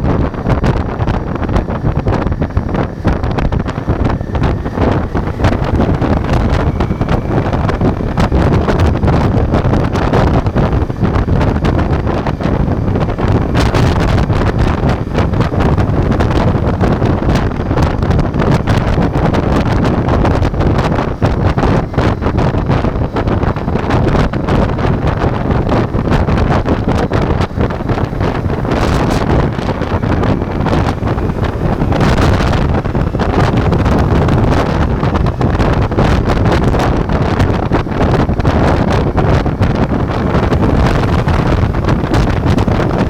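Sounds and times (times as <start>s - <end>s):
motorcycle engine running: 0.0s - 43.0s
wind buffeting on microphone: 0.0s - 43.0s.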